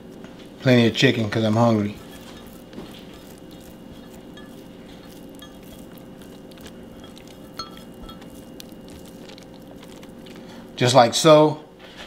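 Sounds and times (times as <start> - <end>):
steady faint hum: 0.0 - 12.0
chicken handled onto salad: 1.1 - 10.8.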